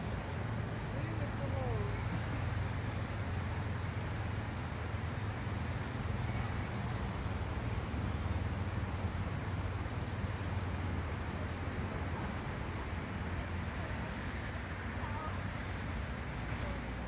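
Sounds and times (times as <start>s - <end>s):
constant hiss: 0.0s - 17.0s.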